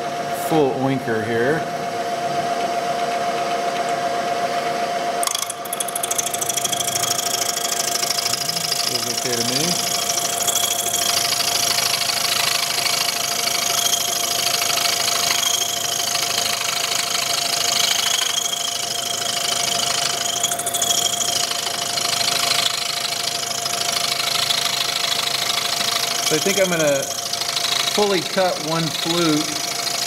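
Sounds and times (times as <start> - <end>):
milling machine hum and whine: 0.0 - 30.0.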